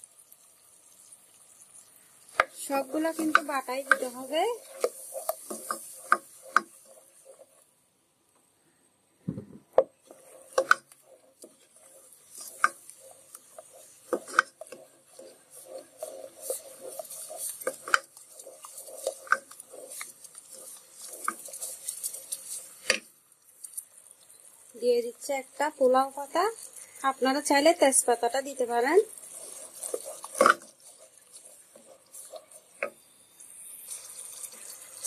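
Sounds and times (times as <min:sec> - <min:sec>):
paste frying in oil: 0:00.0 - 0:08.0, 0:09.7 - 0:35.0
spatula scraping pan: 0:01.8 - 0:07.7, 0:09.8 - 0:24.7, 0:25.6 - 0:35.0.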